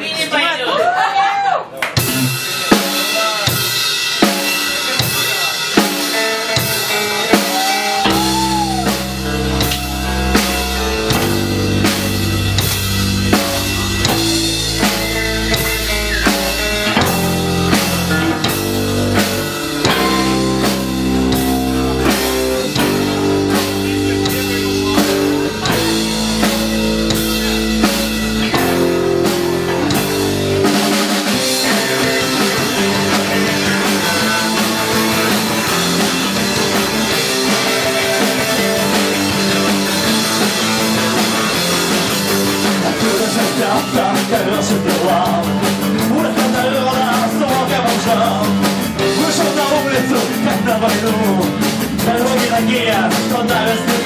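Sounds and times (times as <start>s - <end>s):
drum kit beat: 1.8s - 54.0s
rock band playing live: 1.8s - 54.0s.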